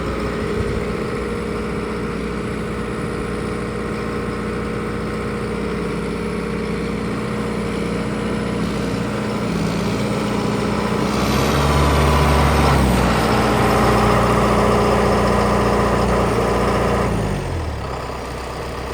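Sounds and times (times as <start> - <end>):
diesel engine idling and revving: 0.0 - 18.9.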